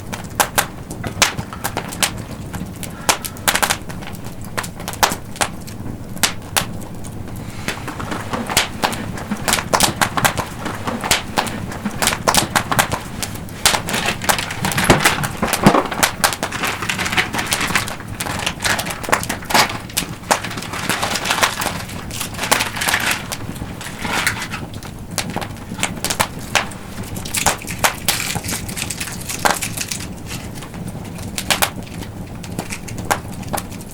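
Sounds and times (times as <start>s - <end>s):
campfire crackling and popping: 0.0s - 33.9s
rush of flame: 0.0s - 33.9s.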